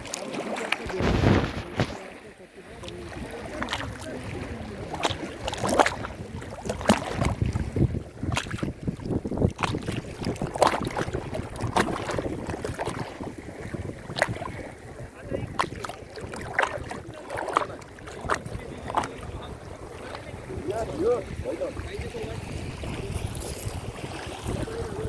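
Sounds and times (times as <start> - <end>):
lake water lapping and splashing: 0.0 - 25.0
wind rumbling on microphone: 0.8 - 25.0.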